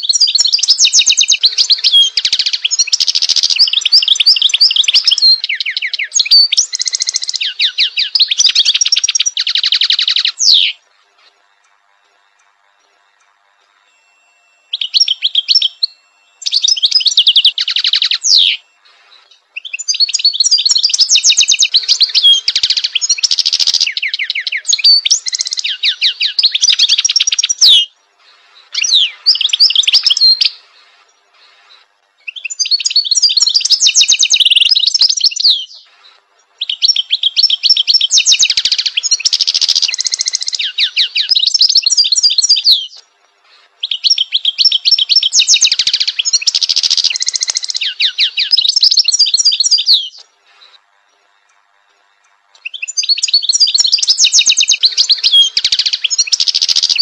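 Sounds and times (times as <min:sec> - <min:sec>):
goldfinch singing: 0:00.0 - 0:10.8, 0:13.9 - 0:36.0, 0:36.6 - 0:43.0, 0:43.8 - 0:50.7, 0:52.6 - 0:57.0.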